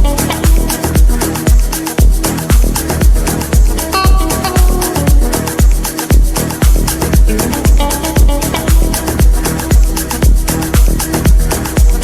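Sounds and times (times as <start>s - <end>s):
dance music: 0.0s - 12.0s
hi-hat strikes: 0.0s - 12.0s
kick drum: 0.0s - 12.0s.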